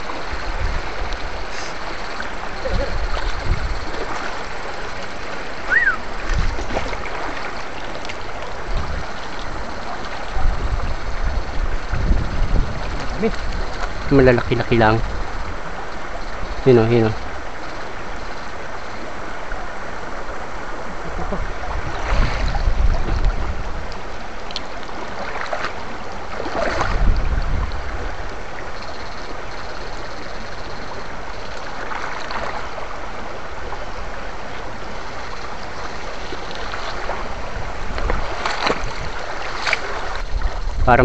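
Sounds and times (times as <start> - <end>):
stream water rushing and splashing: 0.0 - 41.0.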